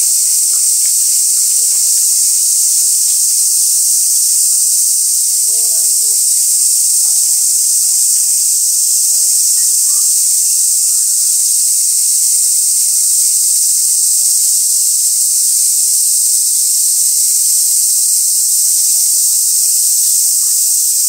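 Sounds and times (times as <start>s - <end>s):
cicadas chorus: 0.0s - 21.0s.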